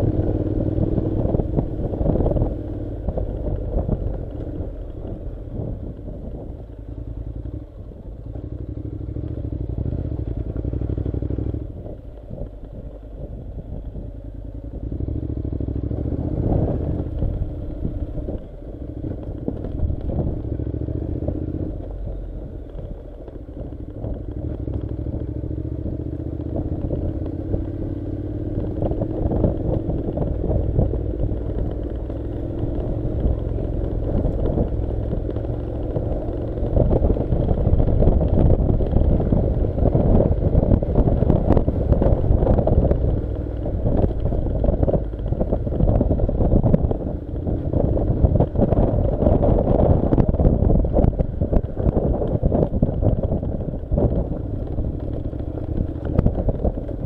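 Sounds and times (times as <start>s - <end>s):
gravel clattering under tyres: 0.0s - 57.0s
motorcycle engine pulling at low speed: 0.0s - 57.0s.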